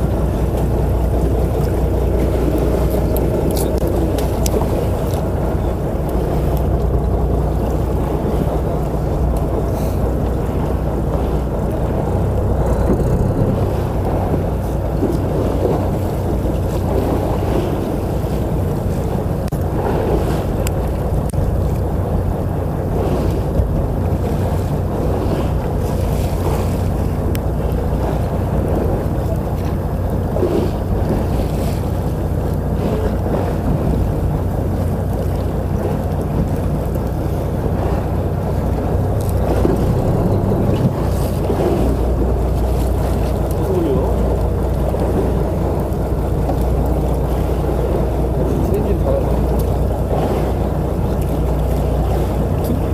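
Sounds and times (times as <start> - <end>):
boat engine running: 0.0 - 52.9
waves against boat: 0.0 - 52.9
wind on microphone: 0.0 - 52.9.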